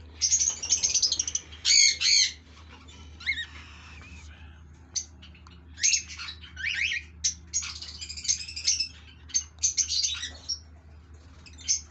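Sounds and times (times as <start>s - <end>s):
cockatiels chirping and squawking: 0.2s - 4.4s, 5.0s - 10.6s, 11.2s - 11.9s.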